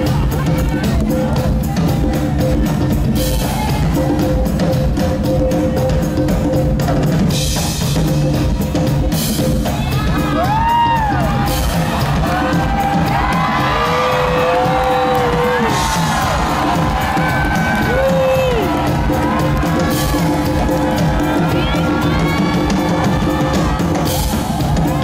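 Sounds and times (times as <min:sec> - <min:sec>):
live band playing loudly: 0:00.0 - 0:25.0.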